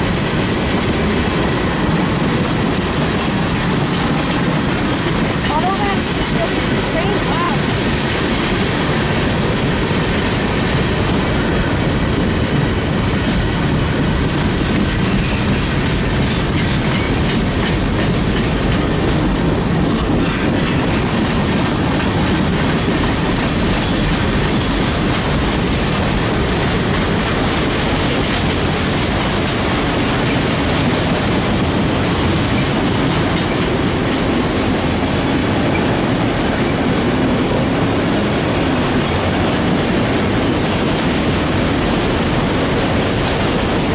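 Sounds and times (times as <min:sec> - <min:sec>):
train wheels clacking over rail joints: 0:00.0 - 0:43.9.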